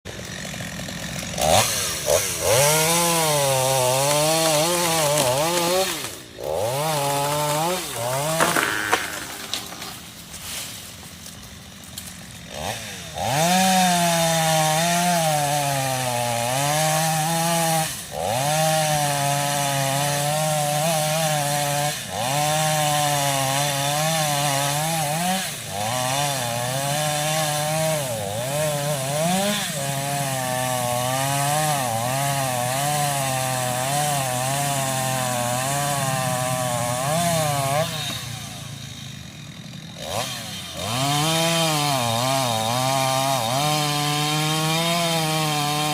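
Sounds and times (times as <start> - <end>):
chainsaw cutting tree: 0.0 - 45.9.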